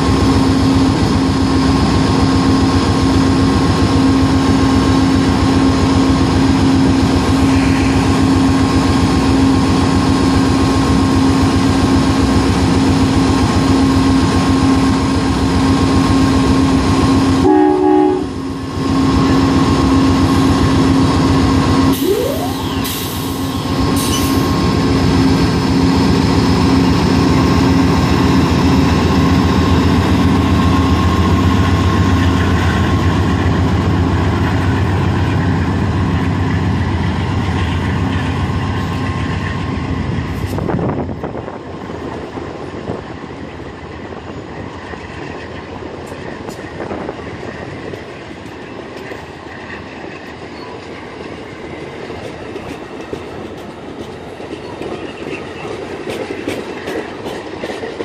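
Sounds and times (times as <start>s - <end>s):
diesel locomotive idling: 0.0s - 58.0s
freight train rumbling past: 0.0s - 58.0s.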